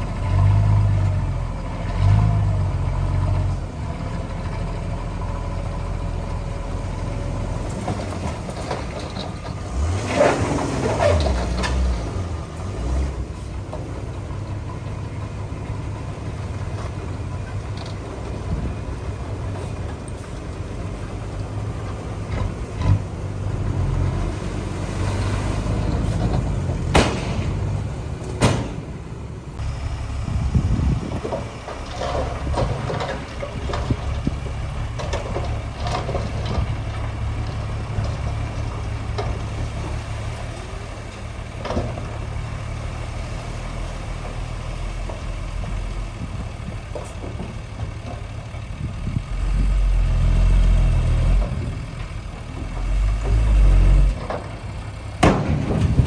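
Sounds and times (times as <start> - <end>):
diesel construction machinery running: 0.0 - 56.0.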